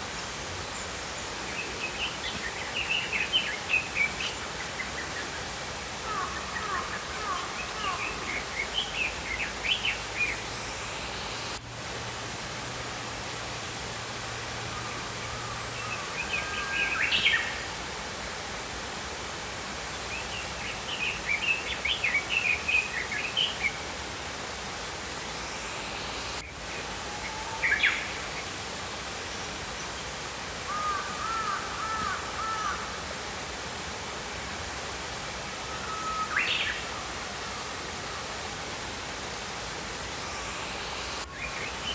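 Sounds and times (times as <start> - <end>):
stream flowing: 0.0 - 41.9.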